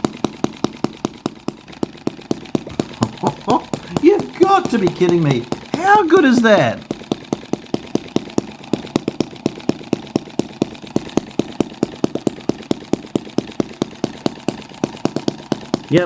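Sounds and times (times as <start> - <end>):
model engine idling: 0.0 - 16.0.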